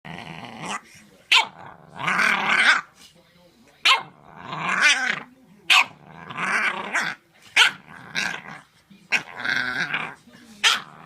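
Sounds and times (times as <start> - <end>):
dog growling and grumbling: 0.0 - 2.9, 4.1 - 11.0.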